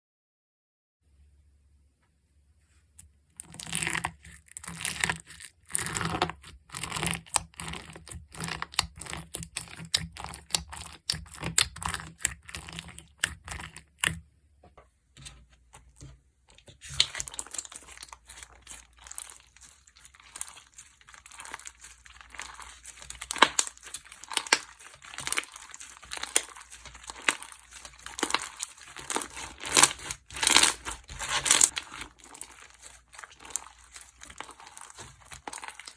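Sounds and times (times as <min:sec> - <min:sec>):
sticky slime crackling: 0:03.4 - 0:14.2, 0:15.8 - 0:35.9.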